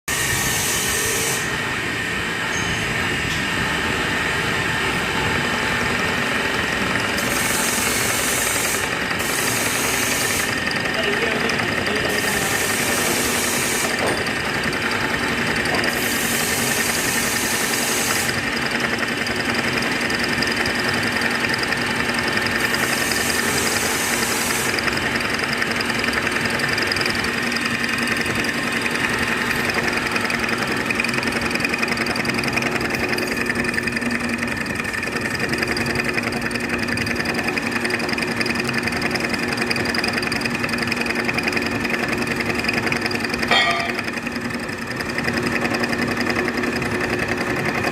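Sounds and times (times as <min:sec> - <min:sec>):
lathe humming and whining: 0:00.1 - 0:47.9.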